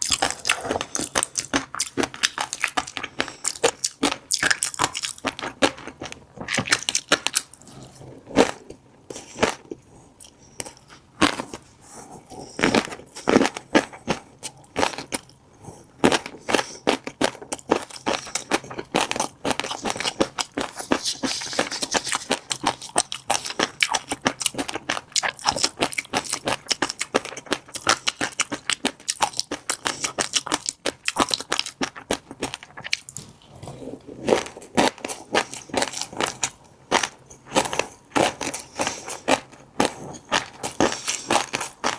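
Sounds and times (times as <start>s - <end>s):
chewing fish roe popping: 0.0s - 11.6s, 16.0s - 41.9s.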